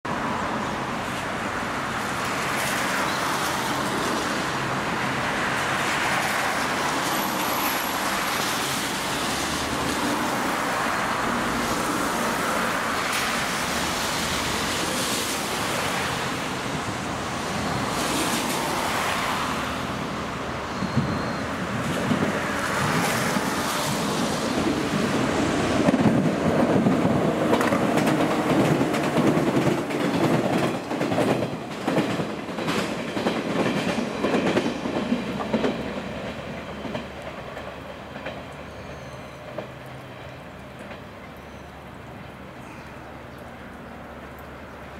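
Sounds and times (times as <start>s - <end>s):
road traffic noise: 0.1s - 44.9s.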